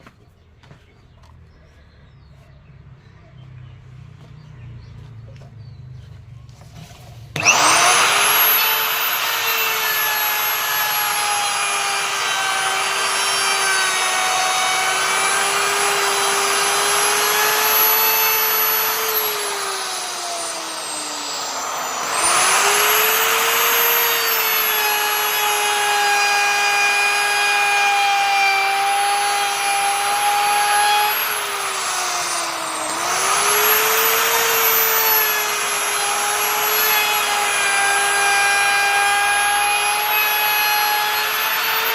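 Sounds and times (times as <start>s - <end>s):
electric router motor whining: 7.3s - 41.9s.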